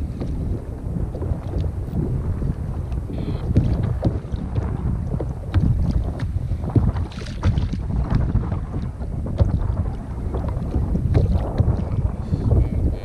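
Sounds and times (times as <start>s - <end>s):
small waves slapping hull: 0.0s - 13.0s
wind buffeting microphone: 0.0s - 13.0s.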